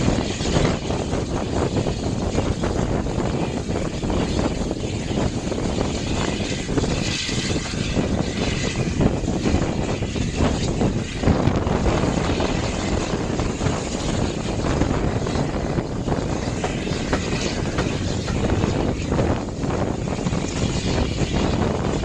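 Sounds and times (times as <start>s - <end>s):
train rushing noise: 0.0s - 22.0s
wind on microphone: 0.0s - 22.0s.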